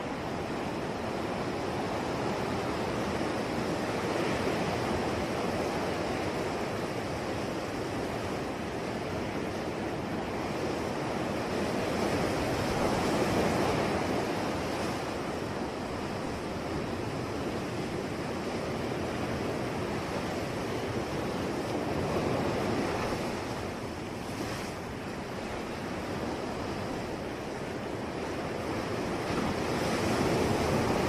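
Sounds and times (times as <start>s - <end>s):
ocean waves washing onto shore: 0.0s - 31.0s.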